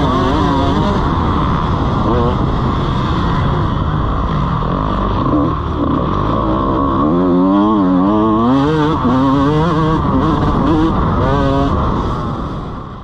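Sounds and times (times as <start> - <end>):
motocross bike engine revving: 0.0 - 12.3.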